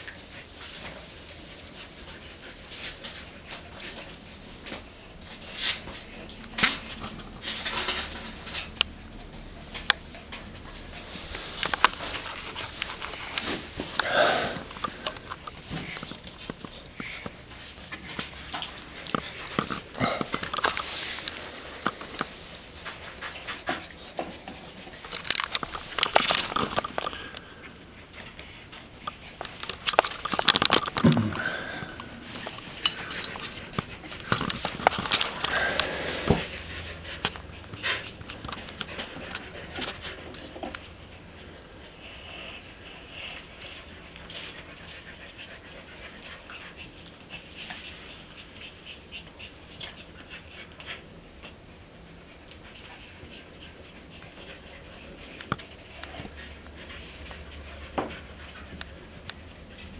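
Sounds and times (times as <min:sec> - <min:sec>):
paw taps and scratches: 0:00.0 - 0:31.1, 0:32.0 - 0:59.9
puppies sniffing and scuffling: 0:00.0 - 0:59.9.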